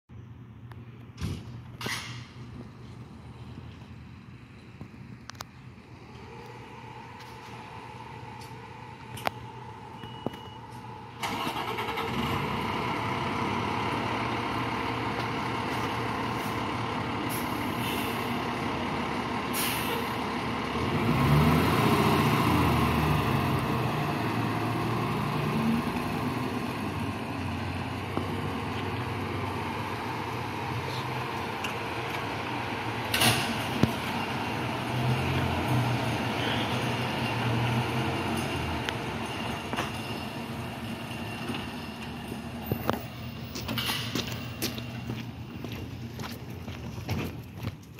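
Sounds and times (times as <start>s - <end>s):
diesel engine starting and idling: 1.0s - 47.7s.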